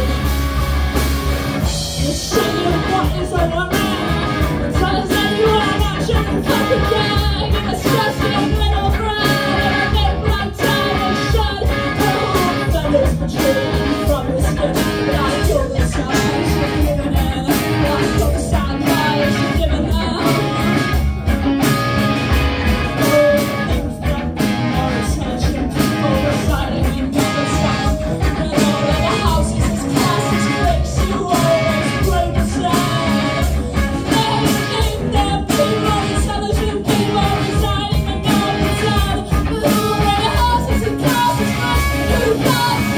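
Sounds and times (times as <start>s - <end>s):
person singing lead vocal: 0.0s - 0.4s, 1.6s - 42.9s
bass guitar: 0.0s - 42.9s
drums: 0.0s - 42.9s
electric guitars: 0.0s - 42.9s.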